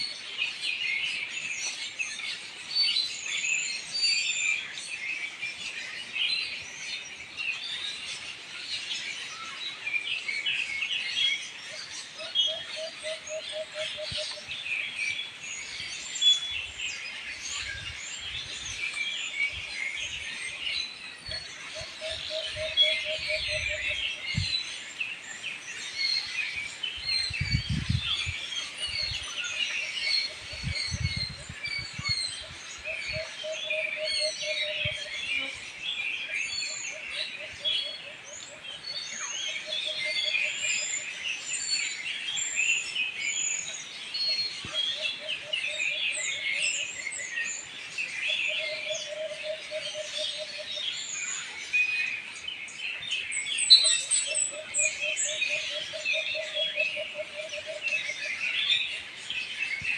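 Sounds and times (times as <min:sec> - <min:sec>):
birds chirping in chorus: 0:00.0 - 0:59.9.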